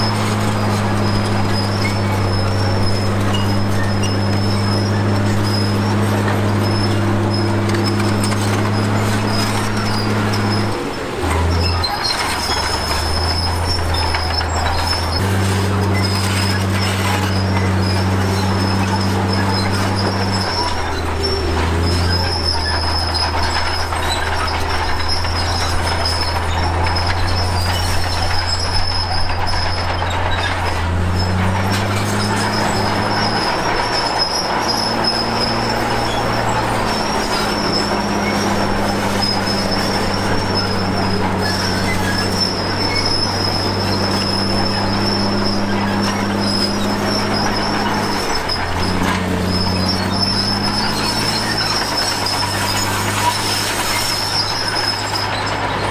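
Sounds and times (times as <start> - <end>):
bulldozer diesel engine under load: 0.0 - 55.9
steel tracks squealing and clattering: 0.0 - 55.9.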